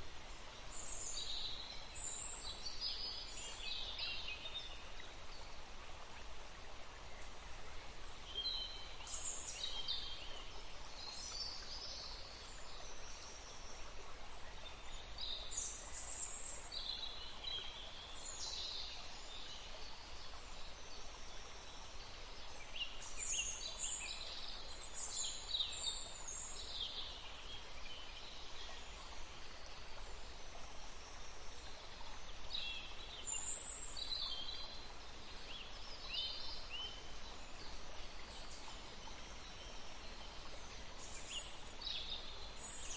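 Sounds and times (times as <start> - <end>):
flowing water rushing: 0.0 - 42.9.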